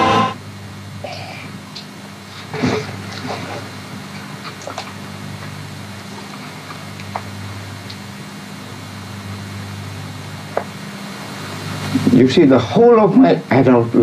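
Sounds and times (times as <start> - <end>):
recording hum and hiss: 0.0 - 14.0.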